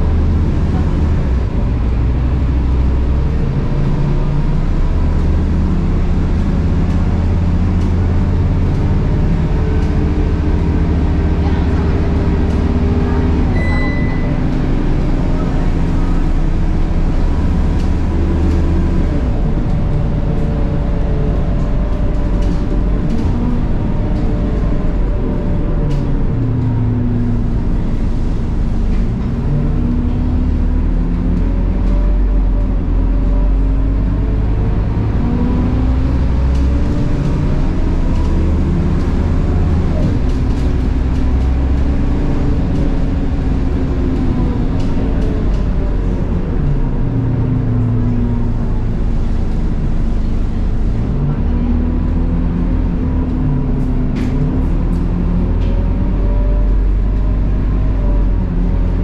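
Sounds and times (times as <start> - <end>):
bus engine rumble: 0.0 - 59.0.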